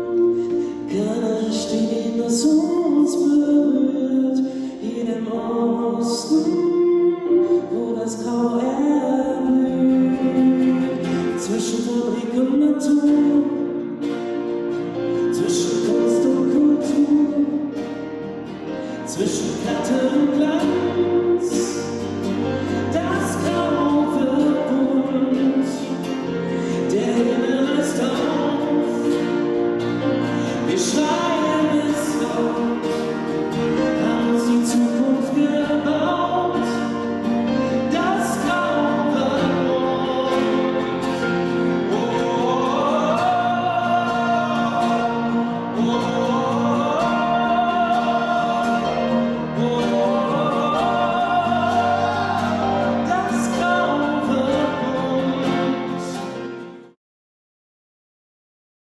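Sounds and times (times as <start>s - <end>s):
man singing slow song: 0.0s - 18.1s, 18.7s - 56.5s
piano chords: 0.0s - 57.0s.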